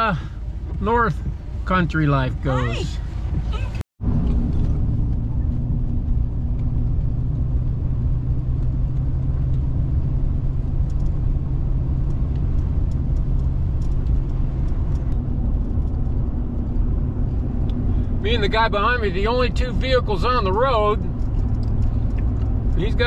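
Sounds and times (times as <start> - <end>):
vehicle engine and road drone: 0.0 - 23.0.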